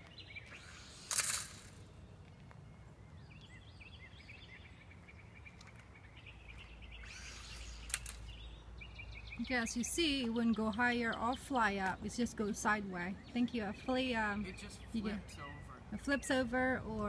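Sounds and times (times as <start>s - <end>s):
birds chirping: 0.0s - 17.0s
low outdoor hum: 0.0s - 17.0s.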